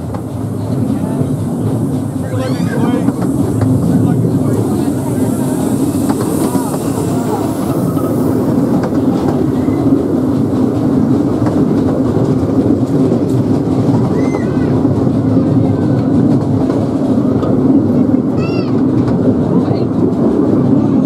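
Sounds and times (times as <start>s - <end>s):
train wheels rumbling and rattling: 0.0s - 21.0s.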